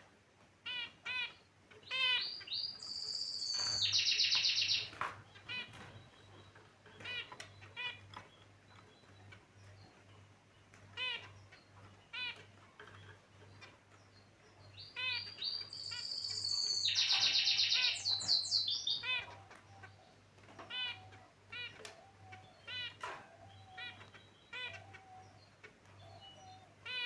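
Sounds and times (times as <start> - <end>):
finches chirping: 0.7 - 27.0.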